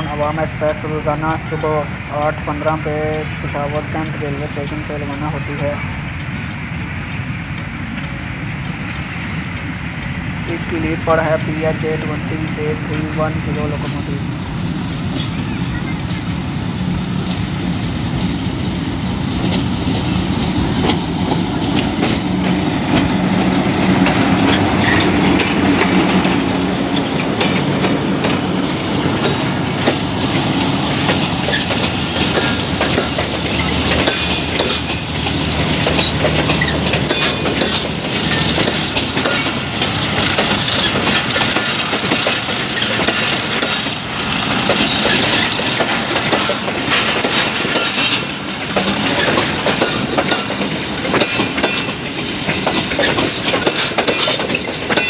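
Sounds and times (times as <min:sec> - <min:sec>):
diesel locomotive engine passing: 0:00.0 - 0:55.0
train wheels knocking over rail joints: 0:00.0 - 0:55.0.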